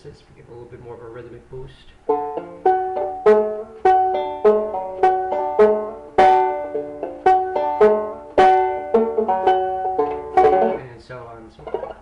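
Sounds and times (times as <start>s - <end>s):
banjo plucked melody: 2.0s - 12.0s.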